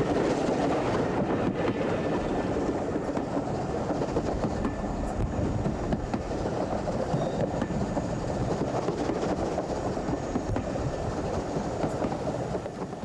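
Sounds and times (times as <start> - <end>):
train rumbling: 0.0 - 13.0
wheels clicking on rails: 0.0 - 13.0.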